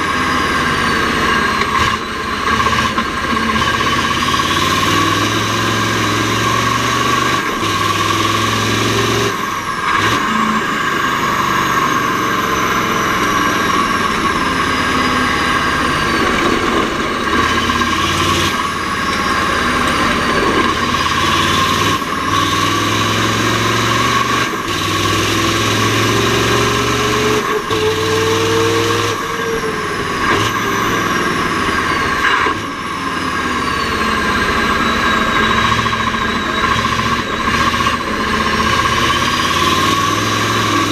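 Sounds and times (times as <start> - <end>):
diesel truck engine shifting gears: 0.0 - 40.9.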